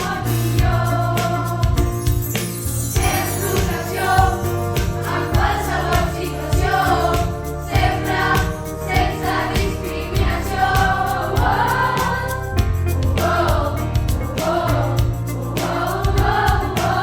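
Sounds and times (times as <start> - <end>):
voices singing over a beat: 0.0 - 17.0.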